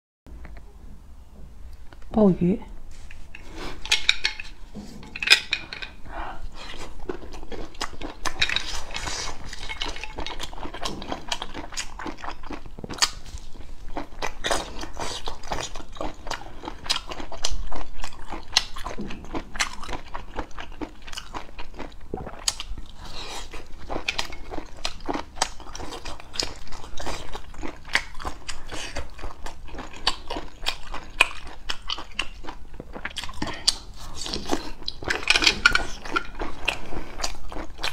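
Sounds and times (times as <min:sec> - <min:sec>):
chewing and biting: 0:05.2 - 0:37.9.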